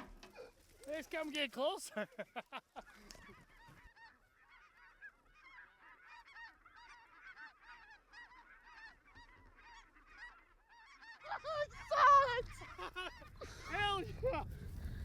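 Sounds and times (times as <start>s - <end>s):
snow geese honking: 0.0s - 13.9s.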